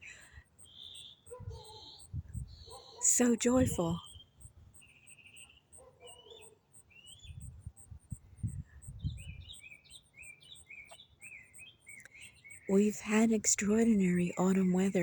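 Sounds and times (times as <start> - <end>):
songbird singing faintly: 0.0 - 15.0.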